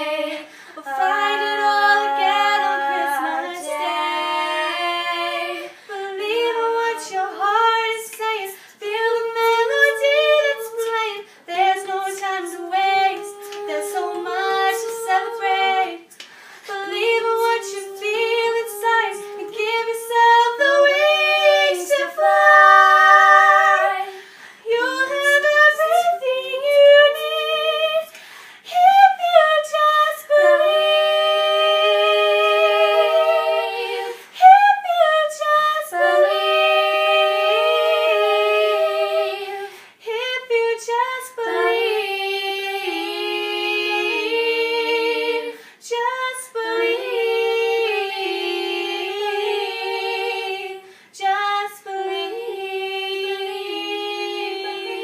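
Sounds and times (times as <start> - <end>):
girls singing in harmony: 0.0 - 55.0.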